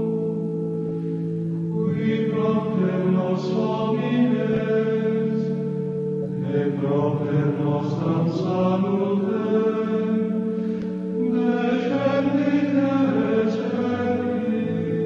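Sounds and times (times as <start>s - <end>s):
voices singing religious chant: 1.7s - 5.7s, 6.3s - 15.0s.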